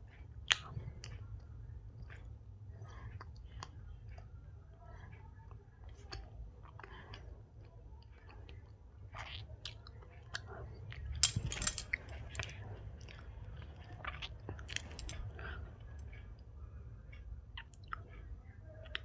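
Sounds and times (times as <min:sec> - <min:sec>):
close chewing with mouth clicks: 0:00.2 - 0:11.2, 0:12.1 - 0:16.5, 0:17.1 - 0:18.2.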